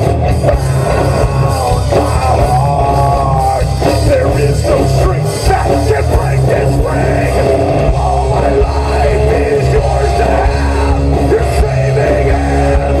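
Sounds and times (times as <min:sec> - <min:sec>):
hard rock band playing: 0:00.0 - 0:13.0
person singing: 0:00.5 - 0:13.0.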